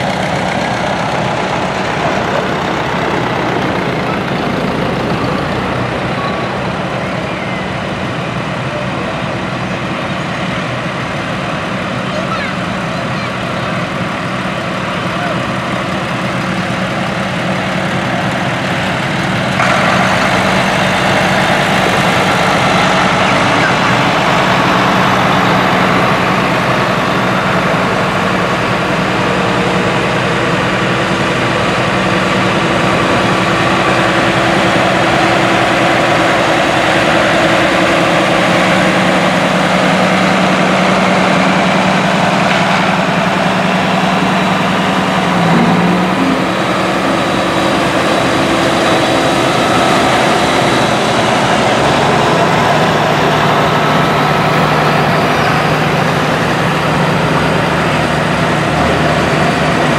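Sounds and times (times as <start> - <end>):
tractor diesel engines driving past: 0.0 - 59.9.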